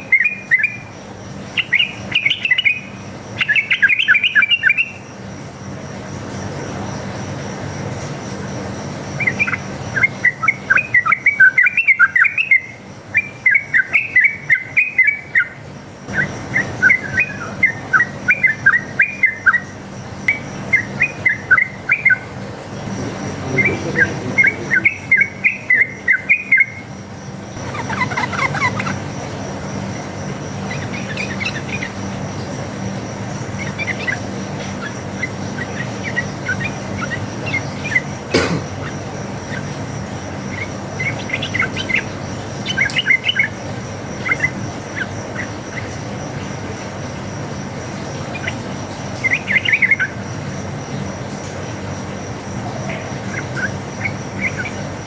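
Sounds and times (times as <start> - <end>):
bulbul chattering song: 0.0 - 55.0
steady low hum: 0.0 - 55.0.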